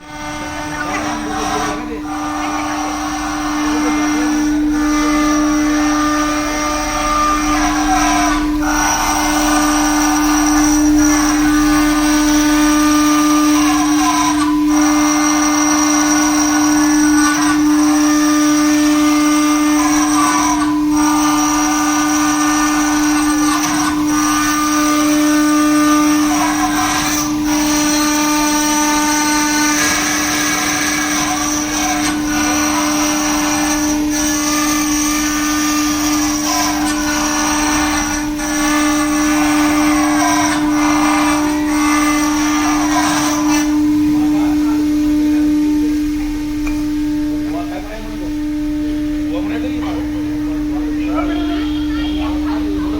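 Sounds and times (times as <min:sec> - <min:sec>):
stone cutting noise: 0:00.0 - 0:49.3
router spindle whine: 0:00.0 - 0:52.9.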